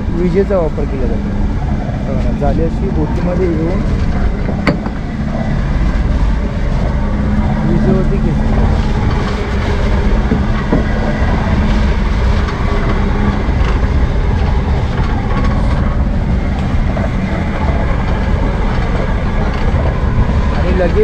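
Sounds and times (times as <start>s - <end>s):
net hauler mechanical rattle: 0.0s - 21.0s.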